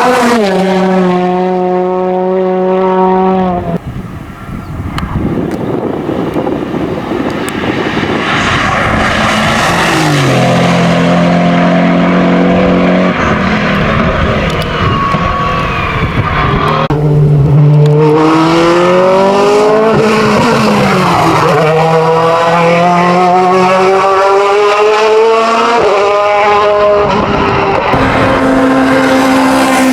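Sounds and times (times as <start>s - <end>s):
race car engine at full throttle: 0.0s - 29.9s.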